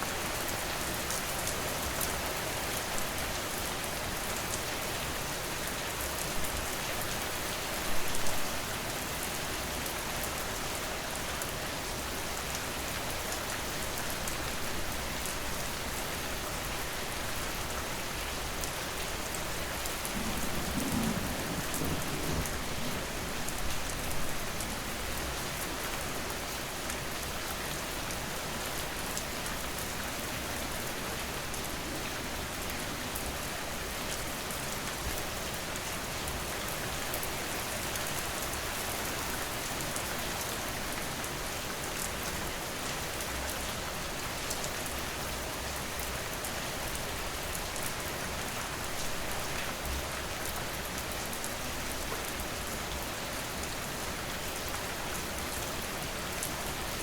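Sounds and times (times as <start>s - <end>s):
heavy rain falling: 0.1s - 57.0s.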